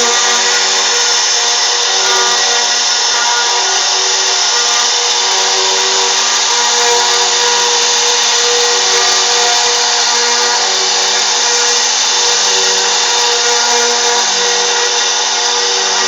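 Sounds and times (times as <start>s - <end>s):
cutting hiss: 0.0s - 16.0s
router spindle whirring: 0.0s - 16.0s.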